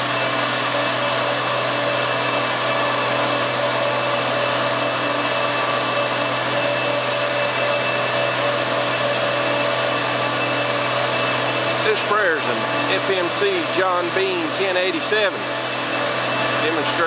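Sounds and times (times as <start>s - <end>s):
sprayer fan and tractor drone: 0.0s - 17.0s.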